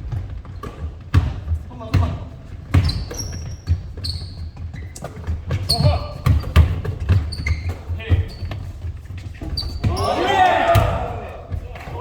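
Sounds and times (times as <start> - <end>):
basketball bouncing on wood floor: 0.0 - 11.9
shoes squeaking on court: 0.0 - 12.0.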